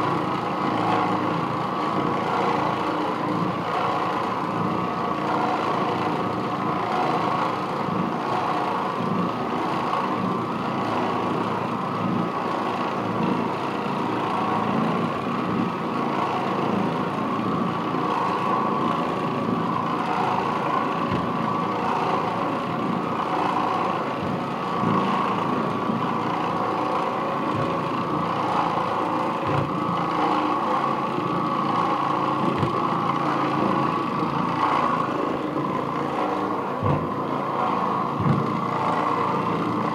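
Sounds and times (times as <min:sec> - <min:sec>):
floor machine scrubbing carpet: 0:00.0 - 0:39.9.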